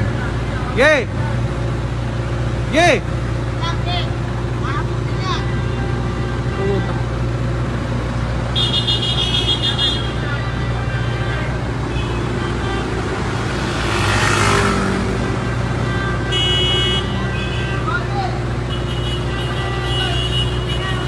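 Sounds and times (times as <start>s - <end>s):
vehicle passing: 0.0s - 20.2s
idling vehicles hum: 0.0s - 21.0s.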